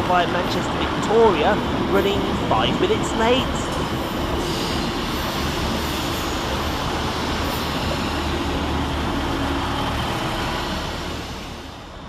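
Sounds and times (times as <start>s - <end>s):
diesel train engines droning: 0.0s - 12.0s
train wheel noise: 0.0s - 12.0s.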